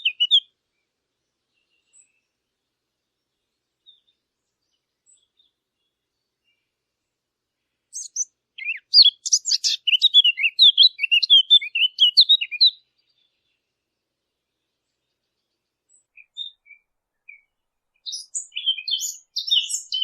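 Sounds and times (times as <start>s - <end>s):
songbird chirping and trilling: 0.0s - 20.0s.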